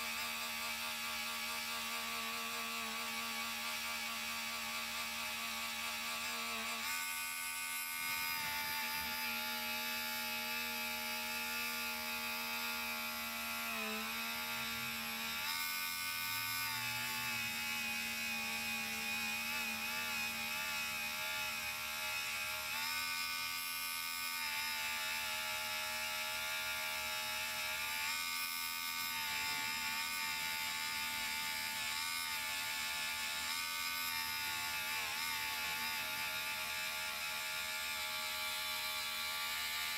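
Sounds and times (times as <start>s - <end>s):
rotary tool whirring: 0.0s - 39.9s.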